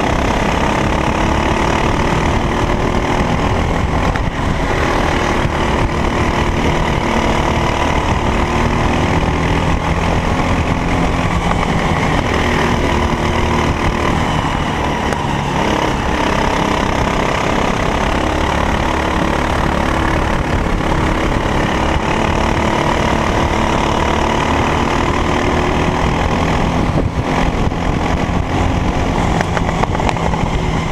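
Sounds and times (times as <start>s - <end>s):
kart engine running: 0.0s - 30.9s.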